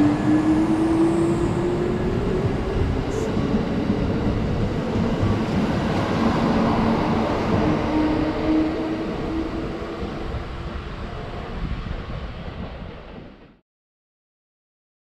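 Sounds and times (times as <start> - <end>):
train wheels rumbling on rails: 0.0 - 13.6.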